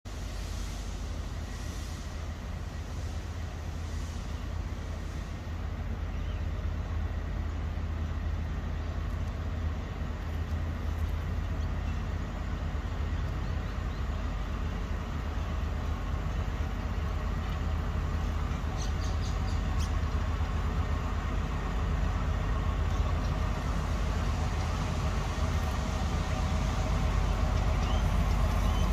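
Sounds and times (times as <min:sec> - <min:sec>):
diesel locomotive engine rumbling: 0:00.0 - 0:28.9.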